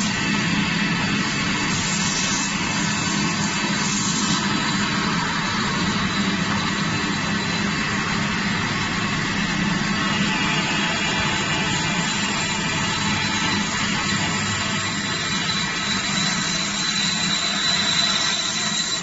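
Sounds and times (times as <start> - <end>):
foam cutting machine humming: 0.0 - 19.0.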